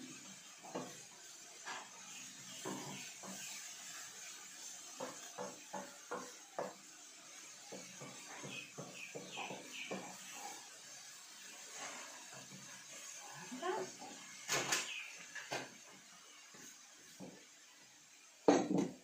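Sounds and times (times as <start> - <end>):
vegetables sizzling: 0.0 - 19.0
wooden spoon scraping frying pan: 0.1 - 17.5.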